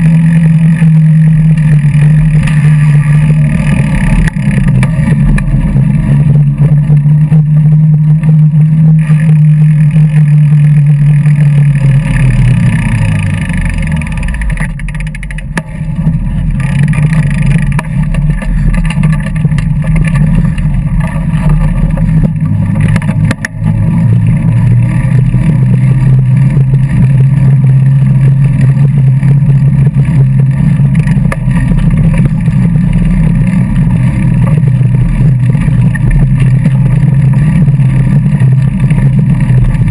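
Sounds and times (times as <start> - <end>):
bike riding drone: 0.0 - 39.9.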